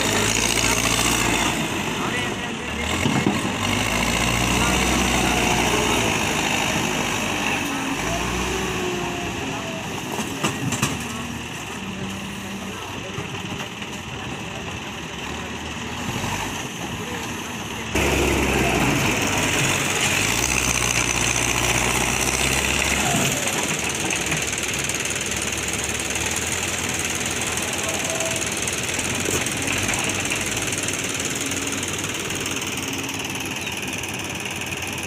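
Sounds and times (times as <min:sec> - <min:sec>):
backhoe diesel engine running: 0:00.0 - 0:35.0.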